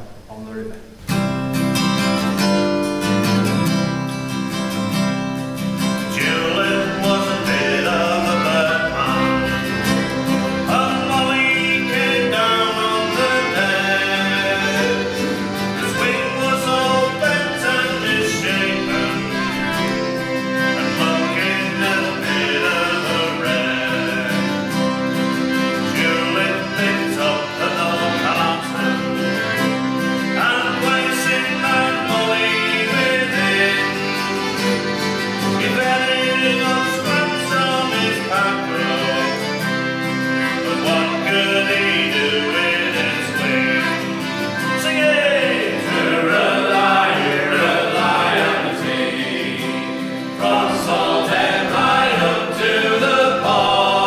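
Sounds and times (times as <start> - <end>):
guitar accompaniment: 0.0 - 54.0
group singing a sea shanty: 6.1 - 29.4, 30.2 - 34.6, 35.4 - 39.6, 40.5 - 54.0.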